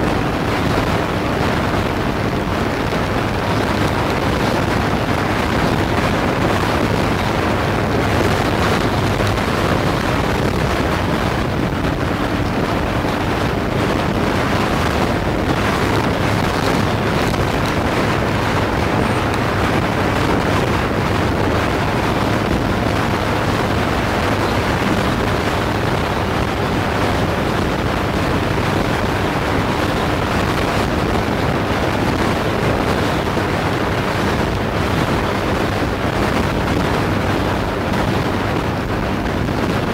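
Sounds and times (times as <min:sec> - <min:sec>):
motorcycle engine droning: 0:00.0 - 0:39.9
wind rushing on microphone: 0:00.0 - 0:39.9.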